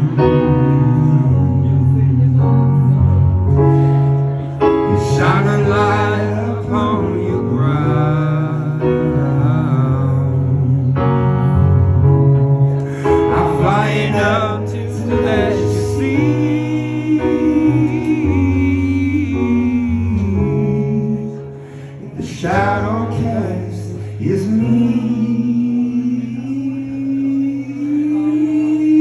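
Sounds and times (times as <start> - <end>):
man singing into a microphone: 0.0 - 12.0, 12.8 - 29.0
instrumental accompaniment: 0.0 - 29.0.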